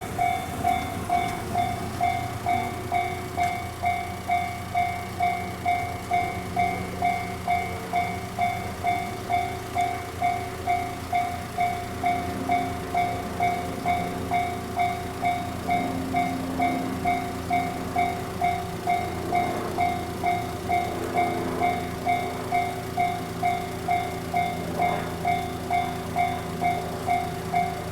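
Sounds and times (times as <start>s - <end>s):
level crossing warning bell: 0.0s - 27.9s.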